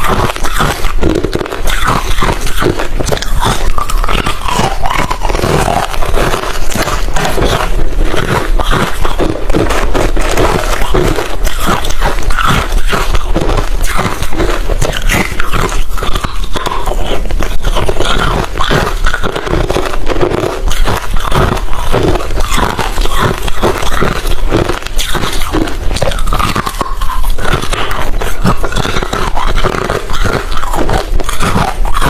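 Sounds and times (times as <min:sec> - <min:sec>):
person chewing crushed ice: 0:00.0 - 0:32.0.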